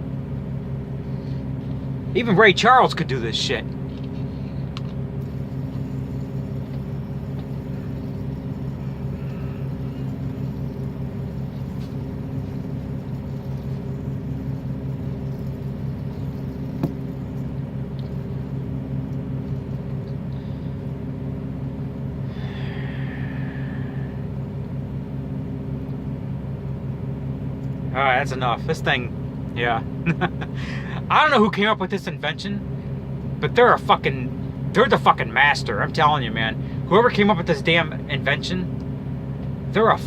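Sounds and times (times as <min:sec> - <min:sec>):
engine idling: 0:00.0 - 0:40.0.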